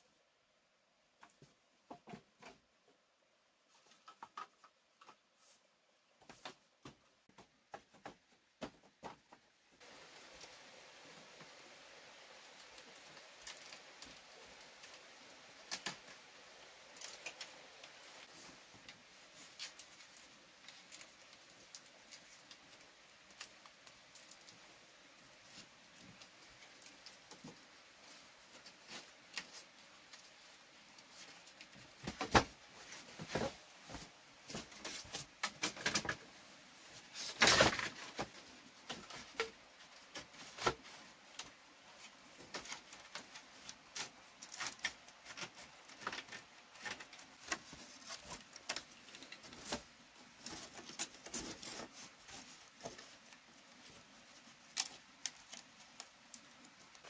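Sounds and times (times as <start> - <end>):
rustling: 1.1 - 57.0.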